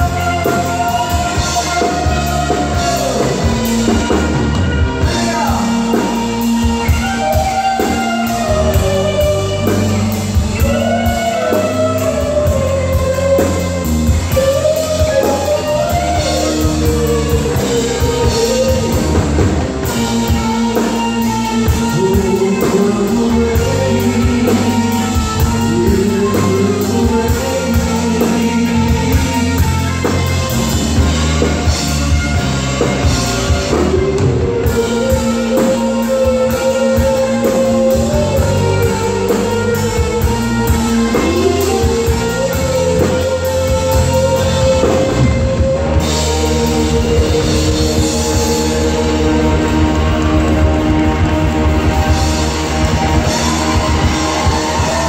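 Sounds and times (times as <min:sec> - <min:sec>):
bass guitar: 0:00.0 - 0:55.0
drum kit: 0:00.0 - 0:55.0
lead electric guitar bending notes: 0:00.0 - 0:55.0.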